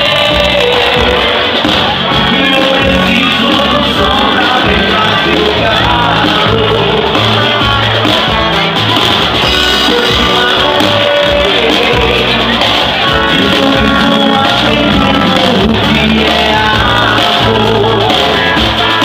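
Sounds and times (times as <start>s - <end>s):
live band music with singing: 0.0s - 19.0s.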